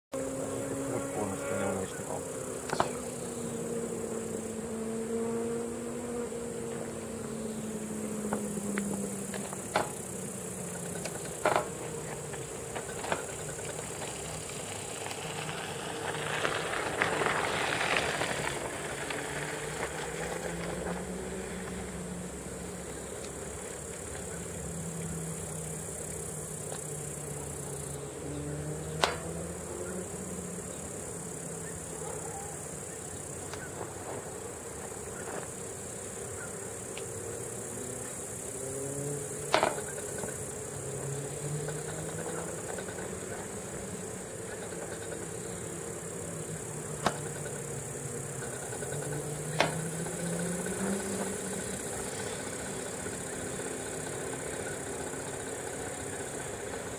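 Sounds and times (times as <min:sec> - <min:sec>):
distant electric locomotive humming: 0:00.1 - 0:56.9
insects buzzing: 0:00.1 - 0:56.9.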